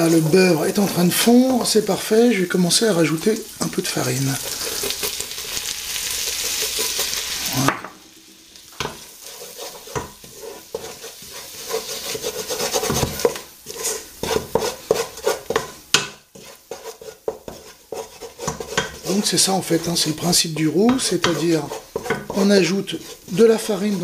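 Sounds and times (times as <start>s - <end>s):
wooden spoon scraping pan: 0.0s - 7.7s, 8.6s - 24.0s
sizzling: 0.0s - 24.0s.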